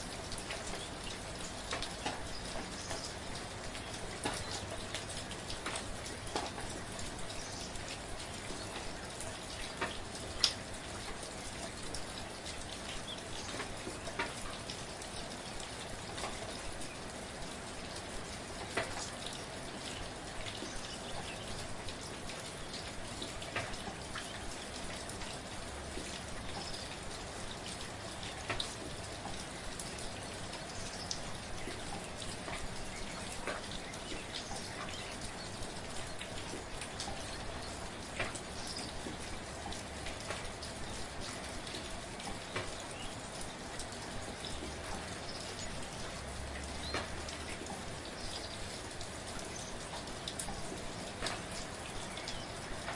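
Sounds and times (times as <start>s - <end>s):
raindrops pattering close by: 0.0s - 52.9s
steady rain: 0.0s - 52.9s.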